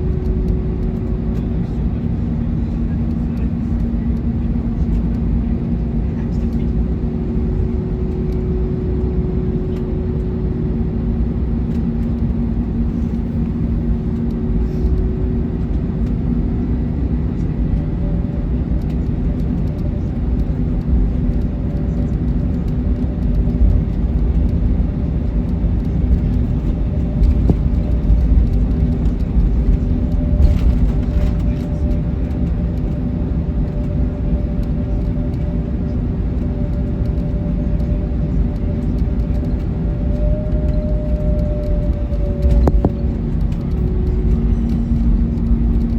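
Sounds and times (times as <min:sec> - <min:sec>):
airliner cabin rumble: 0:00.0 - 0:45.9
jet engines humming: 0:00.0 - 0:45.9.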